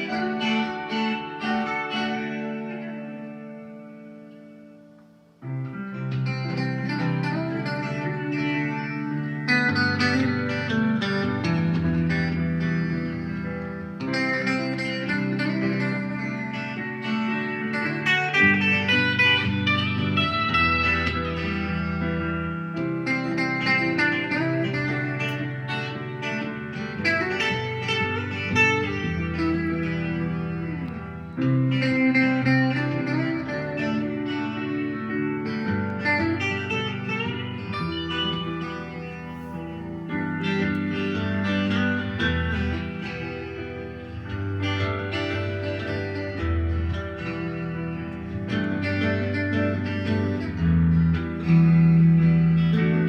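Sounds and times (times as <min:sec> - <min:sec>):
plucked guitar notes: 0:00.0 - 0:53.0.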